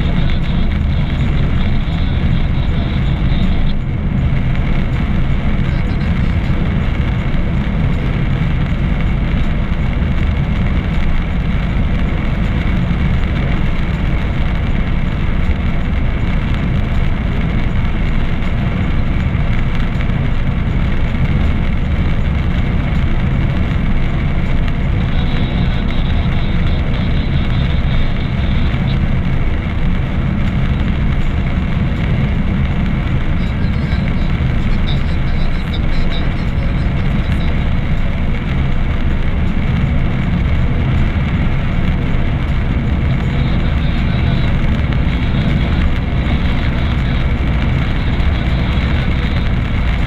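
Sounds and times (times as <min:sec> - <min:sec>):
car engine and tyre noise: 0:00.0 - 0:50.0.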